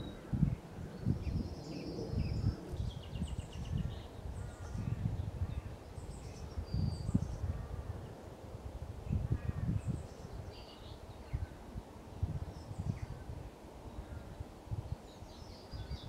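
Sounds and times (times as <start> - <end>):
songbirds singing: 0.0 - 8.4, 9.0 - 16.0.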